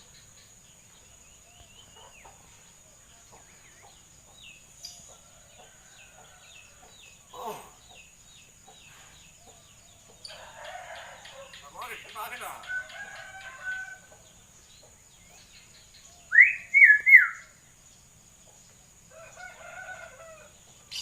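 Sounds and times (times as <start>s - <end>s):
faint bird chirps: 0.0s - 13.7s, 14.8s - 18.5s.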